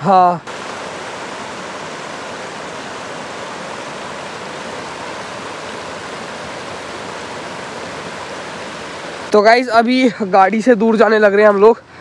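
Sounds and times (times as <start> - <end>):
river rushing over stones: 0.4 - 11.1.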